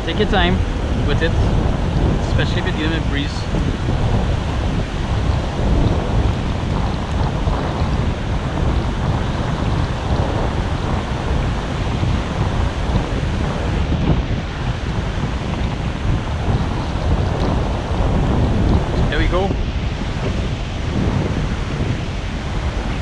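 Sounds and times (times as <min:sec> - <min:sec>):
surf washing onto beach: 0:00.0 - 0:23.0
wind buffeting microphone: 0:00.0 - 0:23.0.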